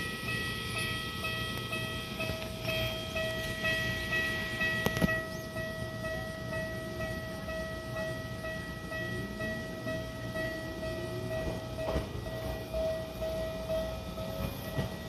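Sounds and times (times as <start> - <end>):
electric trains humming: 0.0 - 15.0
level-crossing bell ringing: 0.0 - 15.0.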